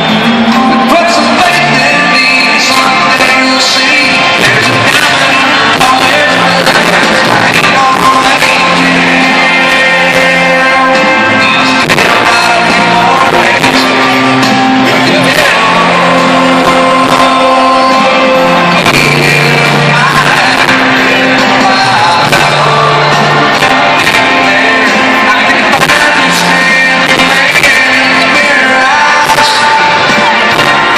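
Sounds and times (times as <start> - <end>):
live country-rock music: 0.0 - 30.9
male singer: 0.0 - 30.9.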